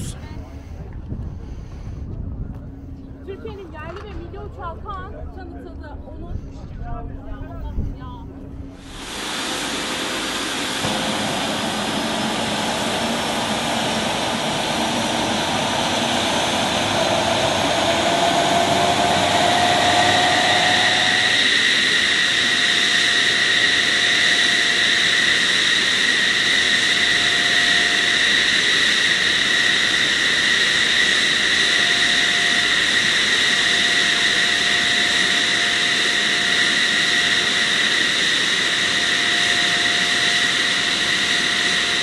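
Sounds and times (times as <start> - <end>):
jet engines whining: 0.0 - 0.7, 2.7 - 42.0.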